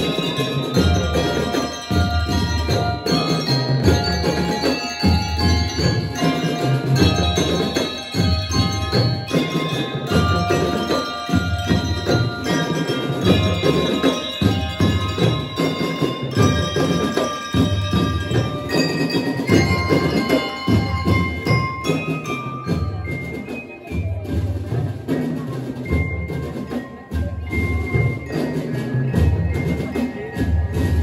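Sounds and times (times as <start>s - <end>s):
bell lyres ringing melody: 0.0s - 31.0s
marching snare and bass drums: 0.0s - 31.0s.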